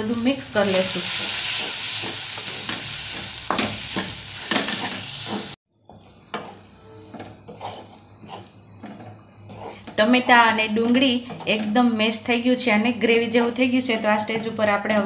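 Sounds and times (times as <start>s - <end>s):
masala sizzling in oil: 0.0s - 14.8s
spatula scraping a pan: 0.6s - 14.8s.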